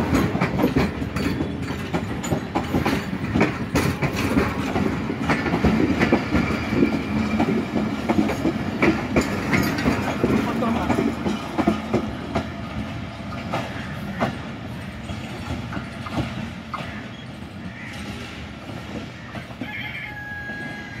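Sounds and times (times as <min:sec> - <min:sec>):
train wheels clacking over rail joints: 0:00.0 - 0:21.0.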